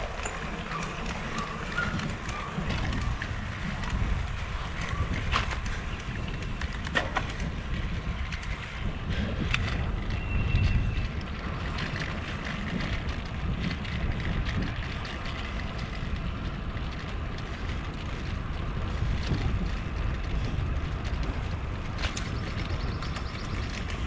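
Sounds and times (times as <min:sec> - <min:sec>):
wheels rolling on concrete: 0:00.0 - 0:24.0
wind rumble on microphone: 0:00.0 - 0:24.0.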